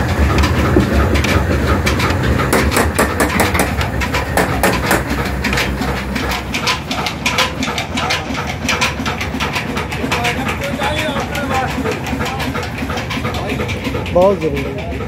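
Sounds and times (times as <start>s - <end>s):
engine rapid knocking: 0.0s - 15.0s
low hum of mill: 0.0s - 15.0s.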